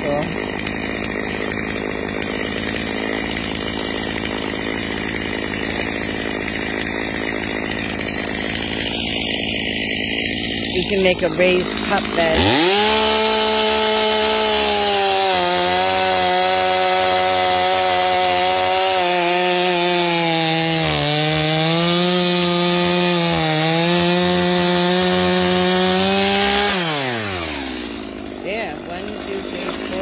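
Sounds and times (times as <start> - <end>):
chainsaw cutting log: 0.0 - 30.0.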